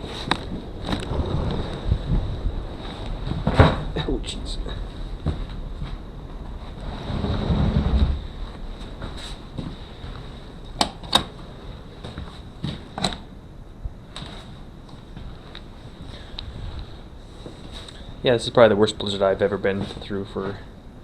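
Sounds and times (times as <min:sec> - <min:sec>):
wind gust on microphone: 0:00.0 - 0:21.0.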